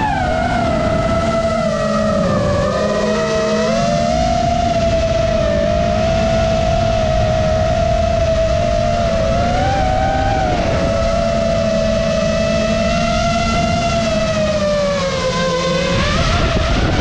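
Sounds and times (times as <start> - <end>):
drone motors whining: 0.0 - 17.0
wind rushing across microphone: 0.0 - 17.0.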